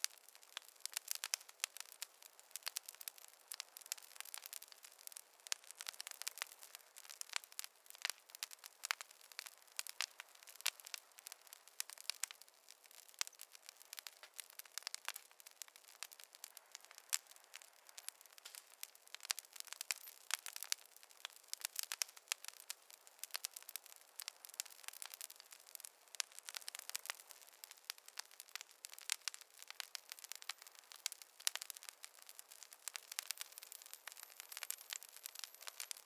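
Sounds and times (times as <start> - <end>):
faint hiss: 0.0 - 36.0
wood fire crackling: 0.0 - 36.0.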